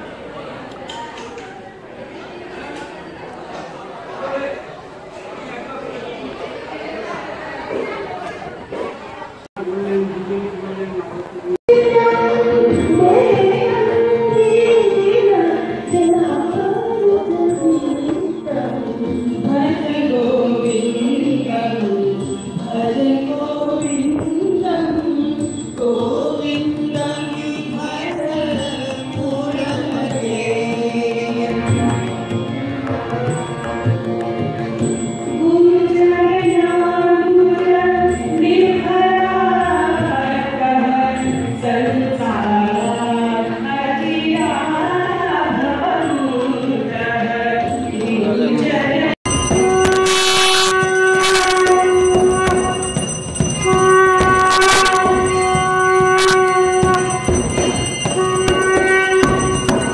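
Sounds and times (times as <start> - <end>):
tabla: 11.1 - 59.9
harmonium: 11.9 - 59.9.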